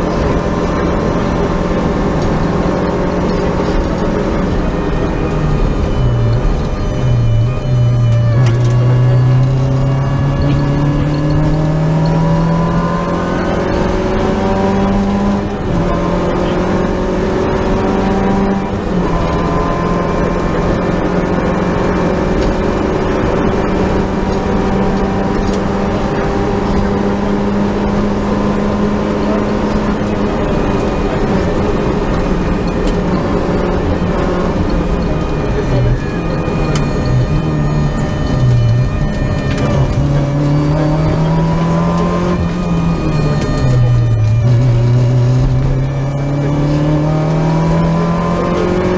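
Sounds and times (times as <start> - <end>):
rally car engine accelerating: 0.0 - 48.9.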